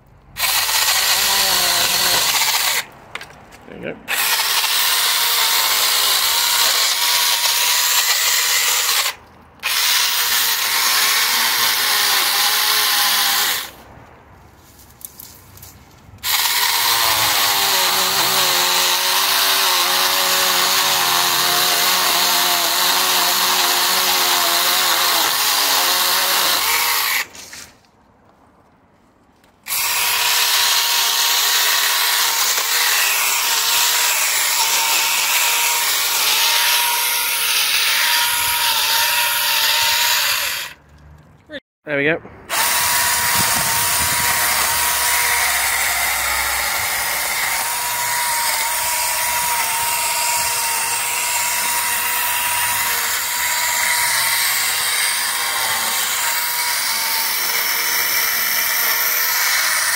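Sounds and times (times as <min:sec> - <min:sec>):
electric chainsaw cutting stems: 0:00.4 - 0:02.9, 0:04.1 - 0:13.8, 0:16.2 - 0:27.6, 0:29.6 - 0:40.8, 0:42.5 - 0:59.9.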